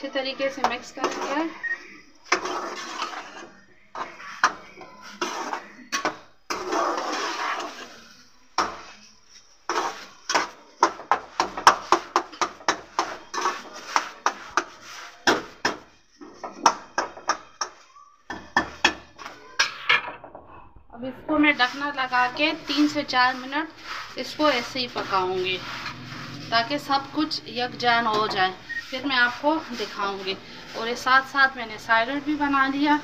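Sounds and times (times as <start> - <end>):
metal spatula scraping through mash: 0.1 - 17.9, 21.4 - 33.0.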